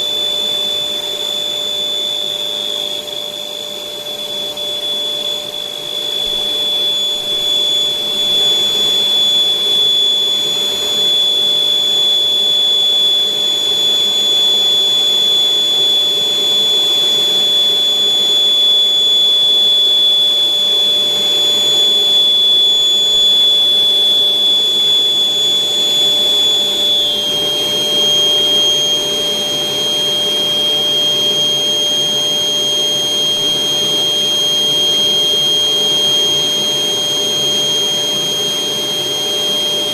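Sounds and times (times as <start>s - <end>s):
electric air blower whining: 0.0s - 39.9s.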